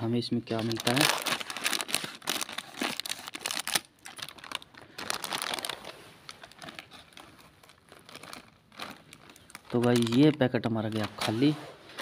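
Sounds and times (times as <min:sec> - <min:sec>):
foil wrapper crackling: 0:00.5 - 0:11.3.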